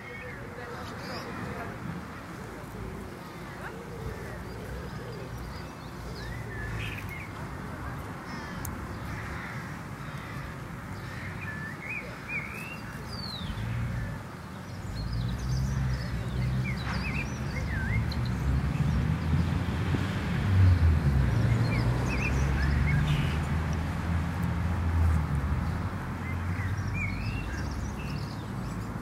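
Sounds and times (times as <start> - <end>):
birds chirping: 0.0 - 19.6, 20.6 - 29.0.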